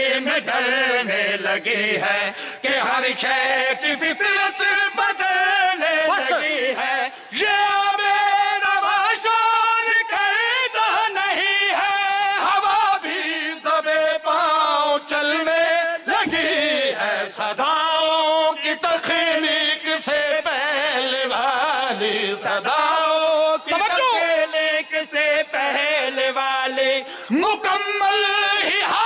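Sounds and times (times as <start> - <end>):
man chanting: 0.0 - 29.0.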